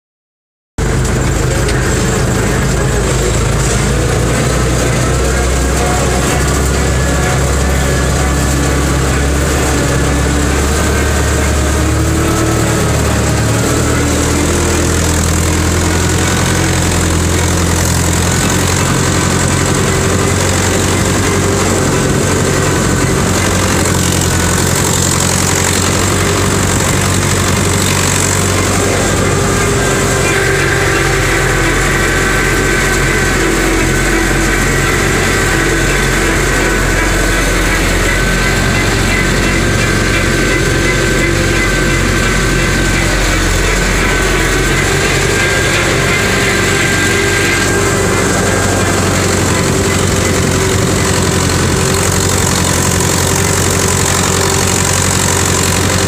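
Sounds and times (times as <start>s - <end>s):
tractor diesel engine under load: 0.8s - 56.0s.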